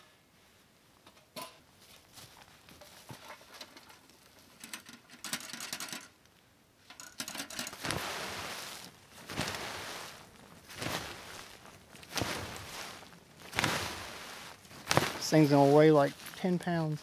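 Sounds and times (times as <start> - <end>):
rustling: 1.7 - 6.1, 6.9 - 17.0.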